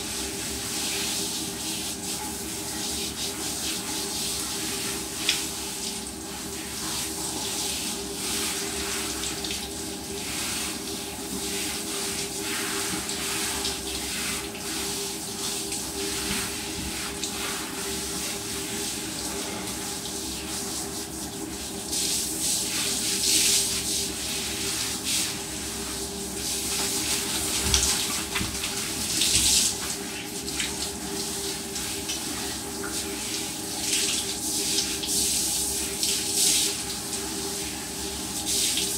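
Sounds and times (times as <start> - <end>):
shower hose spraying water: 0.0 - 38.9.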